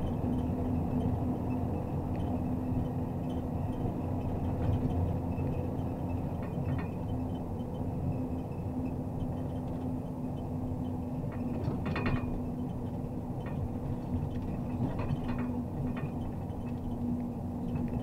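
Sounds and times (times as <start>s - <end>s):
diesel engine low hum: 0.0s - 18.0s.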